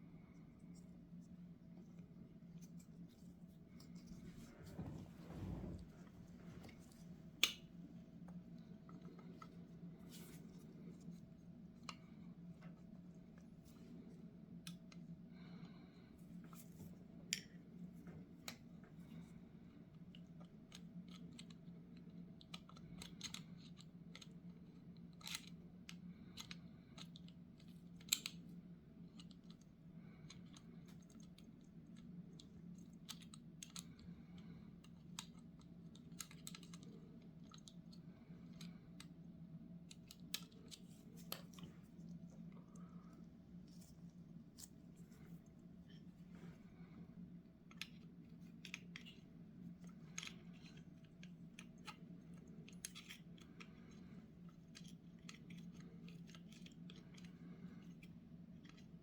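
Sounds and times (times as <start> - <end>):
steady low hum: 0.0 - 21.1, 25.6 - 59.0.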